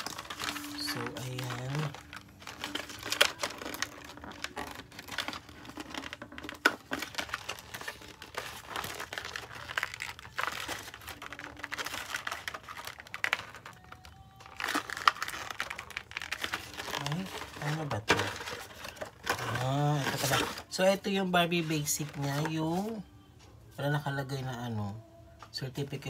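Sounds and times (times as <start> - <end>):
plastic wrap crinkling: 0.0 - 23.1.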